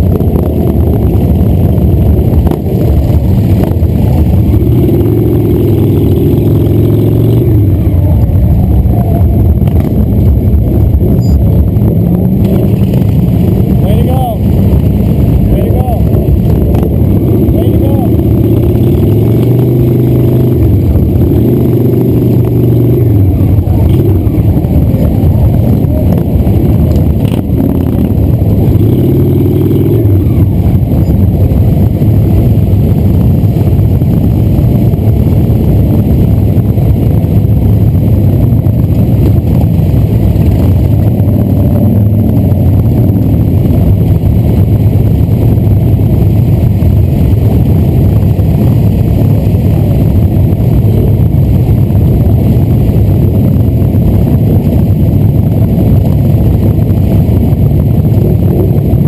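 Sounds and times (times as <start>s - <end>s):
motorcycle engines rumbling: 0.0s - 59.0s.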